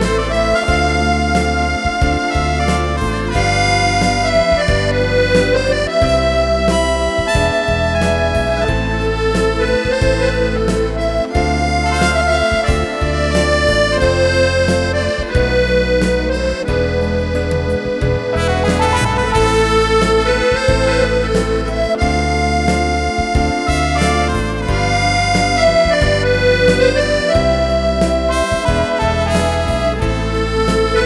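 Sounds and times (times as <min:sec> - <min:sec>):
accordion playing slow melody: 0:00.0 - 0:31.0.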